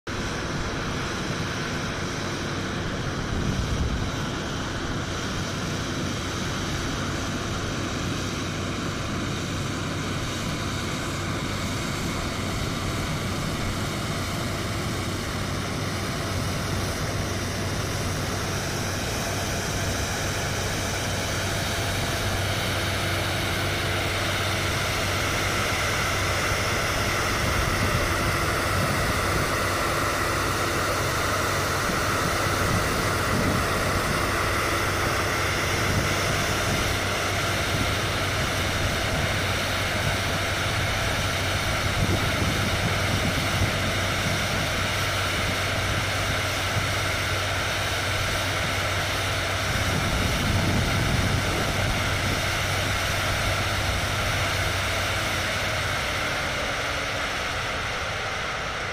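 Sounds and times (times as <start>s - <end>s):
combine harvester droning: 0.1s - 58.9s.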